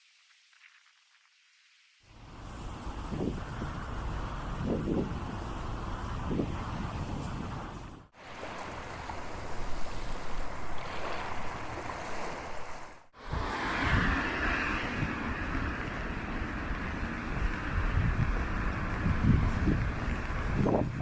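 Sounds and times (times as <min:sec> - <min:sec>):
gusty wind buffeting microphone: 0:02.1 - 0:21.0
rough surf hissing: 0:02.1 - 0:21.0.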